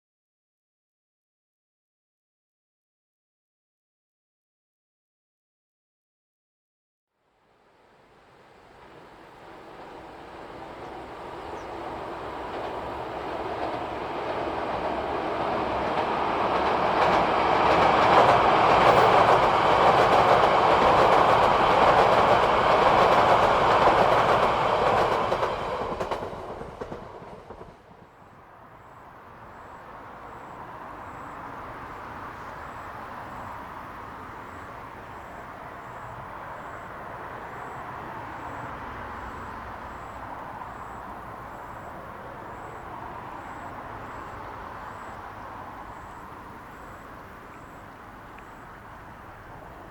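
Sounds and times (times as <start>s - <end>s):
train passing: 7.2s - 49.9s
wheels clacking on rails: 8.3s - 49.9s.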